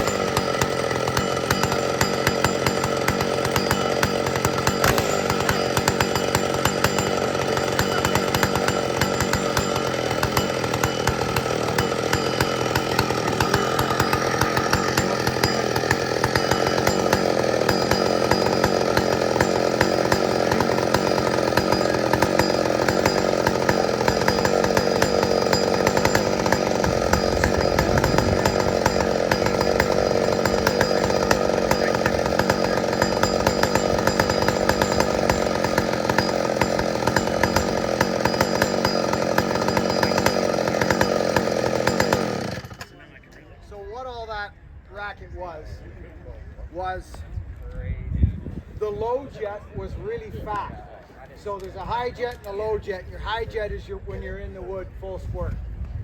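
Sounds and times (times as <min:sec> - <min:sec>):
chainsaw running: 0:00.0 - 0:43.4, 0:51.4 - 0:54.1.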